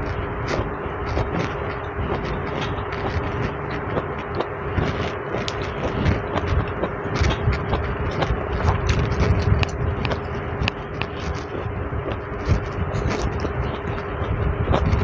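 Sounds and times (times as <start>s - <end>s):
chewing vegetables: 0.0s - 15.0s
steady background hum: 0.0s - 15.0s.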